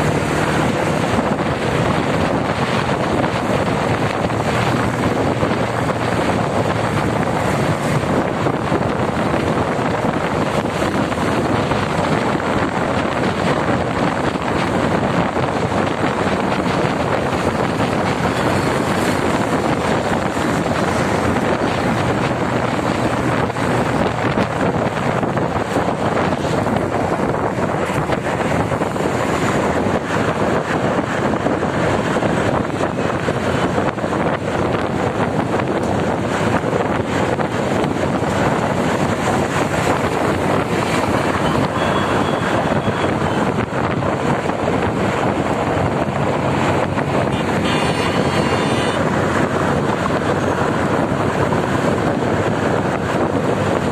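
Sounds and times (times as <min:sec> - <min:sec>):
wind and road noise: 0:00.0 - 0:53.9
wind buffeting microphone: 0:00.0 - 0:53.9.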